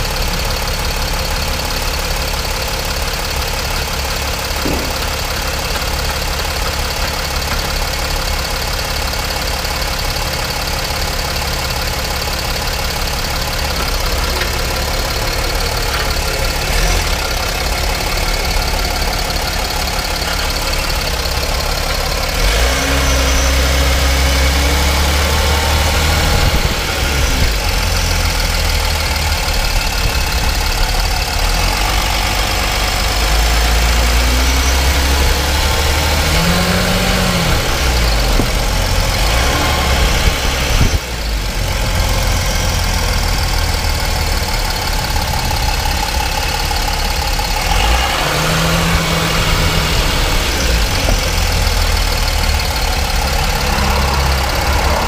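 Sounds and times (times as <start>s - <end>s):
road and tyre noise: 0.0s - 55.0s.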